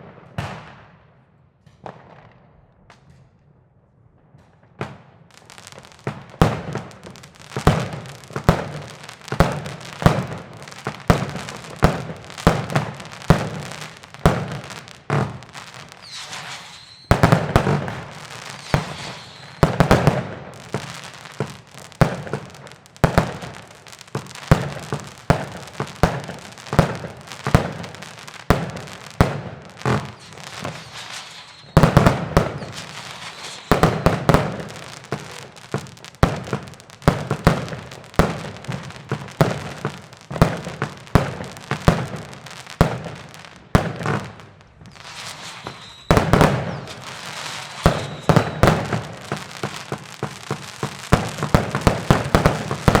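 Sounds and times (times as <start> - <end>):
fireworks bangs: 0.0 - 1.0, 4.2 - 53.0
fireworks crackling: 5.2 - 53.0.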